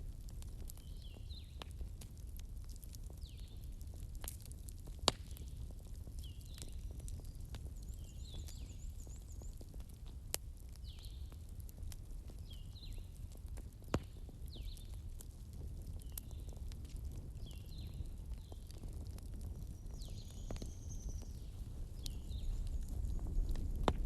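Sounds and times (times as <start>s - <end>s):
fireplace crackling: 0.0s - 24.0s.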